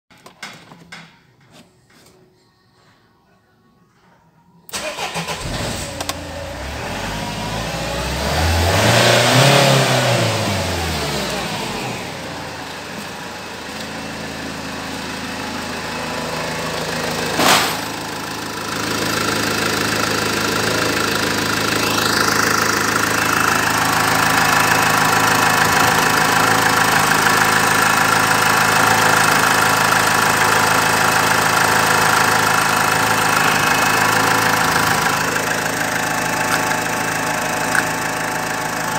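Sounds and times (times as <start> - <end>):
diesel engine starting and idling: 4.7 - 38.9.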